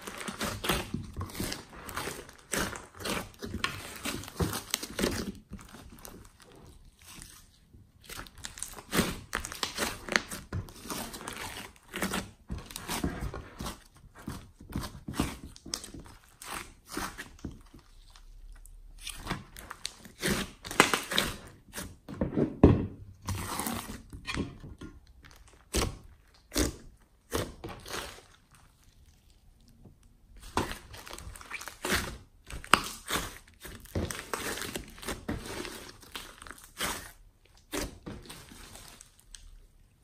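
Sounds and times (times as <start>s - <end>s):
wet slime squishes: 0.0s - 22.2s, 23.0s - 40.0s.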